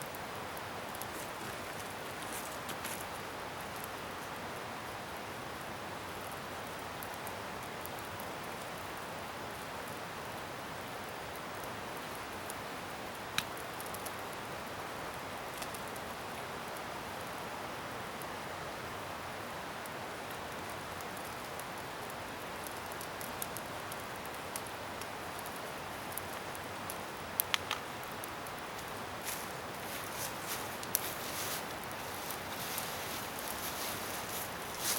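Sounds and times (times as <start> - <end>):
bonfire hissing: 0.0 - 34.9
fire crackling: 0.0 - 34.9.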